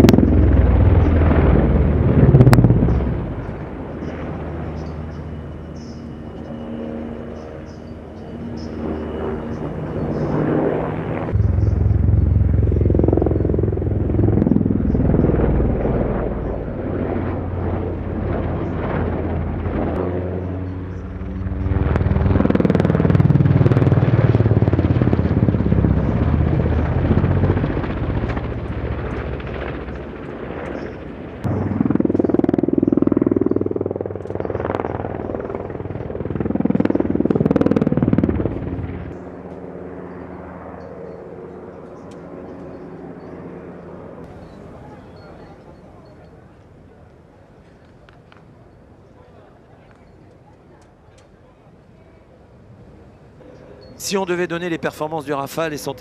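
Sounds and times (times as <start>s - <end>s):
helicopter rotor and turbine: 0.0s - 47.0s, 52.7s - 56.0s.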